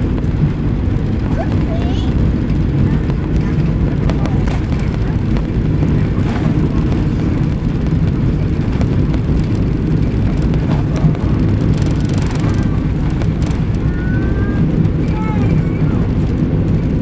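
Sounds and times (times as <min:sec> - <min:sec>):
airframe rushing noise: 0:00.0 - 0:17.0
jet engines at takeoff power: 0:00.0 - 0:17.0.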